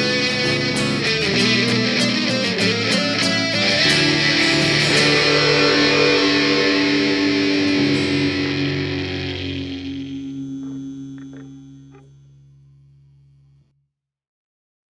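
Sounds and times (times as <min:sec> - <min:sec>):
electric guitar chord ringing: 0:00.0 - 0:13.6.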